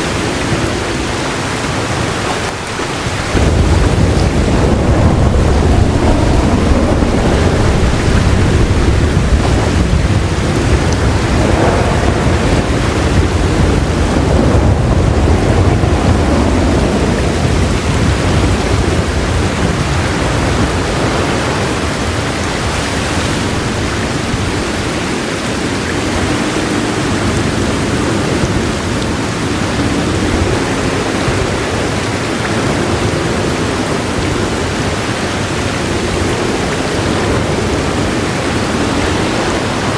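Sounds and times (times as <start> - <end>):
heavy rain: 0.0 - 39.9
low thunder rumble: 0.0 - 39.9.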